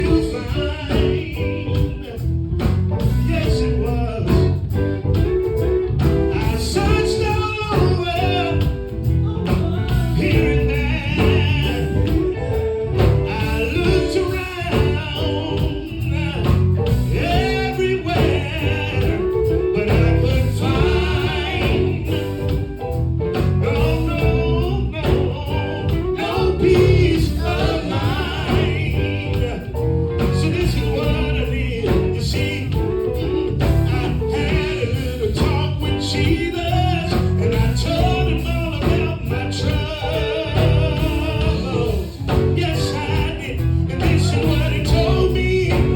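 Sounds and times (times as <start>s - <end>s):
group singing: 0.0s - 2.2s, 6.2s - 45.9s
bass: 0.0s - 45.9s
guitar: 0.0s - 45.9s.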